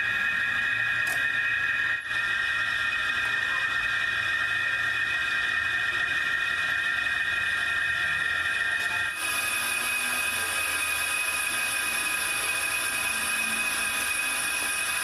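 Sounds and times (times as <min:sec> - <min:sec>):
metal lathe whining: 0:00.0 - 0:15.0.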